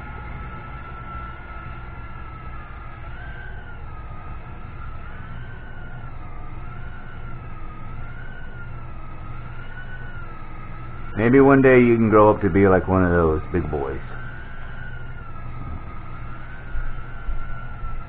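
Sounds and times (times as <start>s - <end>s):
micro quadcopter motors whining: 0.0s - 18.0s.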